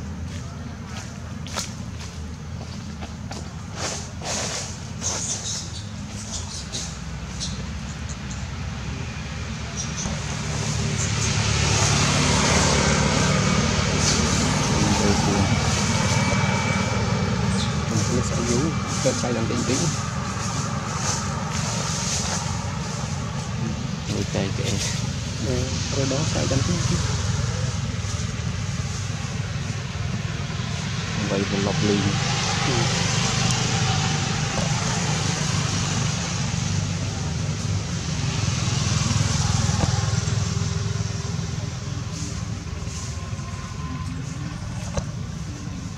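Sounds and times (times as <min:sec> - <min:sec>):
low engine drone: 0:00.0 - 0:45.9.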